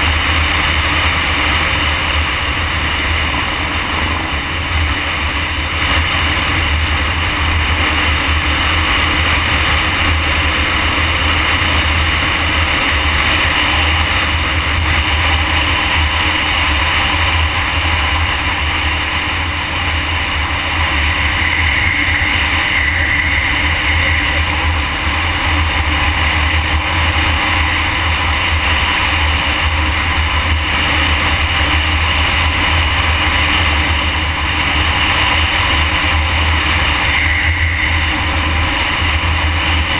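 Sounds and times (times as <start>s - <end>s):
motorcycle engine drone: 0.0s - 39.9s
wind noise on microphone: 0.0s - 39.9s.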